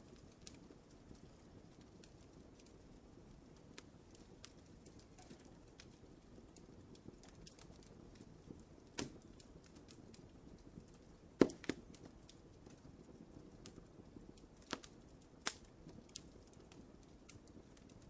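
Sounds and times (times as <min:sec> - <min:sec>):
low rumble of flame: 0:00.0 - 0:18.0
sharp pops from fire: 0:00.0 - 0:18.0
wood fire crackling: 0:00.0 - 0:18.0.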